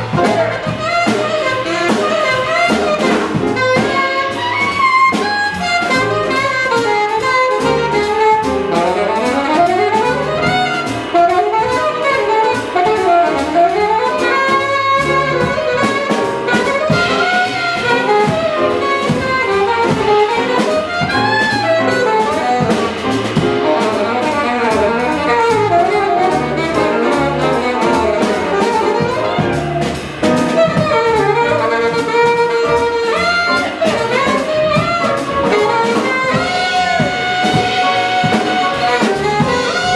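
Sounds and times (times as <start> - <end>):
alto saxophone solo: 0.0 - 39.9
drum kit with ride cymbal: 0.0 - 39.9
piano: 0.0 - 39.9
upright bass: 0.0 - 39.9.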